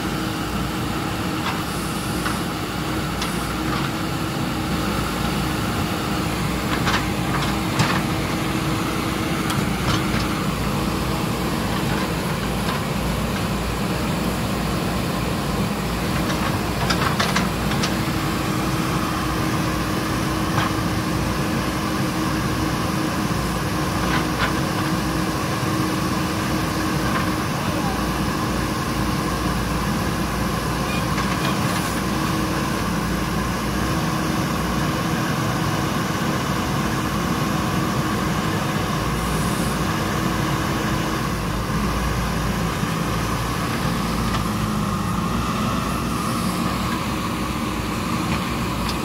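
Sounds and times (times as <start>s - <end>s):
diesel engine running under load: 0.0s - 49.0s.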